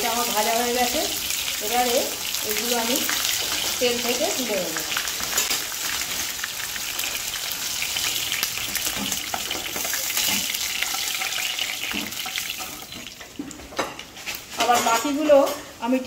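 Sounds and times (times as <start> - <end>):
oil sizzling while deep-frying: 0.0 - 15.4.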